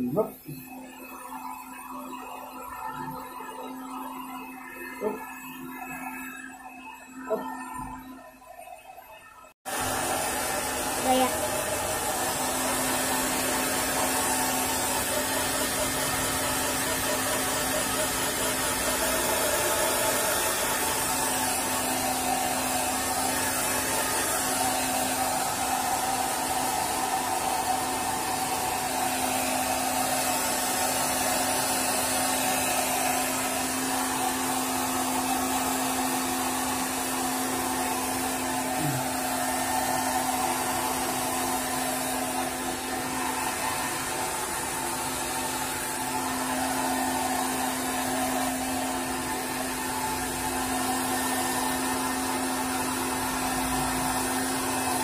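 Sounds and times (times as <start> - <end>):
hair dryer running: 0.0 - 8.0, 9.6 - 55.0.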